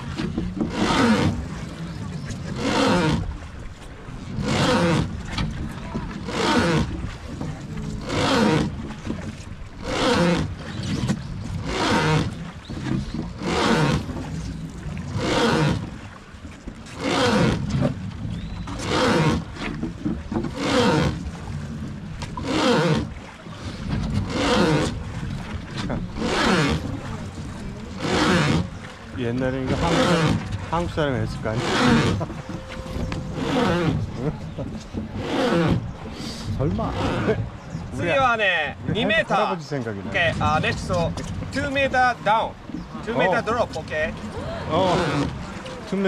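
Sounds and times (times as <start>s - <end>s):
wooden oars creaking: 0.0s - 46.0s.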